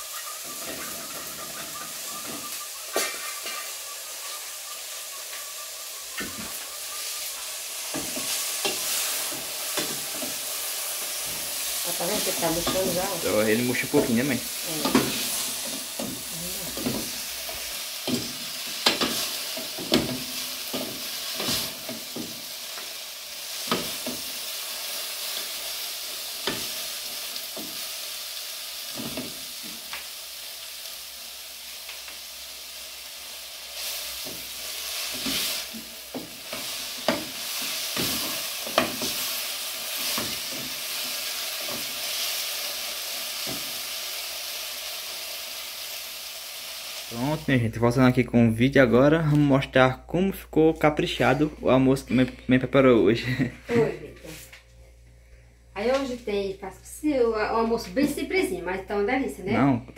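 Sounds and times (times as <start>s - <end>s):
greens sizzling in oil: 0.0s - 48.2s.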